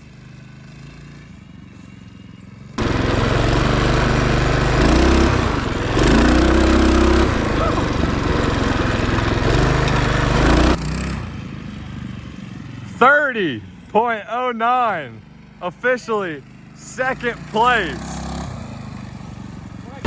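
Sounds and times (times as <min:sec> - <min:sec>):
small motorbike engine revving: 0:00.0 - 0:14.0, 0:14.9 - 0:20.0.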